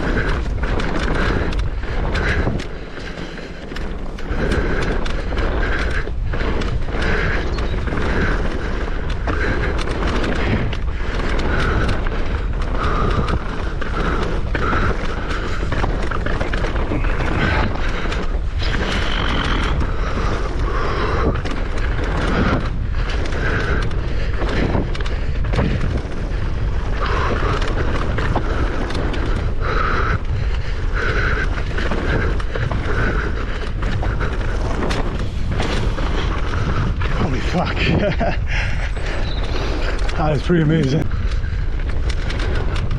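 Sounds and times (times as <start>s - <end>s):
bike knocking and rattling: 0.0s - 42.9s
heavy breathing: 0.0s - 42.9s
wind and tyres rumbling on dirt: 0.0s - 42.9s.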